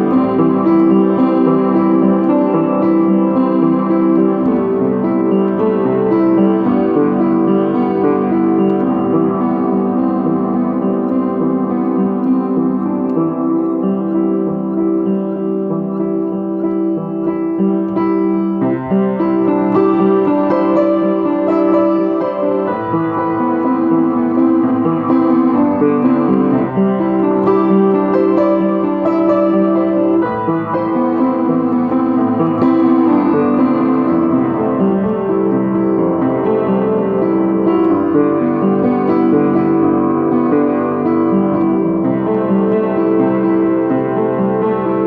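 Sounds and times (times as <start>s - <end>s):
upright piano melody: 0.0s - 45.0s.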